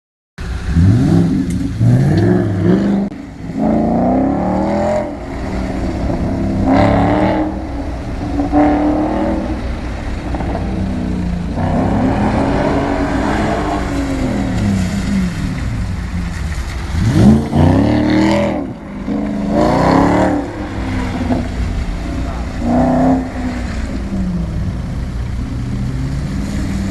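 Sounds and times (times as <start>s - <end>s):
car engine revving: 0.4s - 26.9s.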